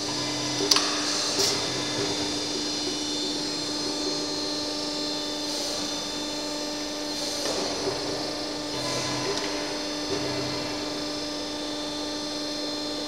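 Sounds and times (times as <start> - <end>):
punch press humming: 0.0 - 13.0.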